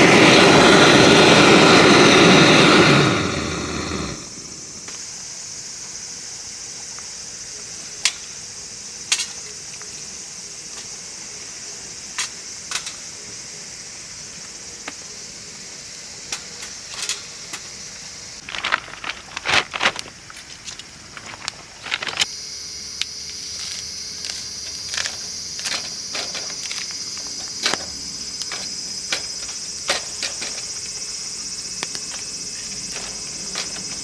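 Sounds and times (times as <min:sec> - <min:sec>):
night insects chorus: 0:00.0 - 0:34.0.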